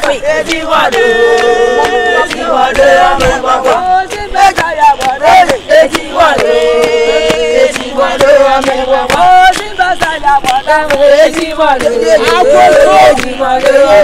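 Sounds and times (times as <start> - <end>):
women singing a chant: 0.0 - 14.0.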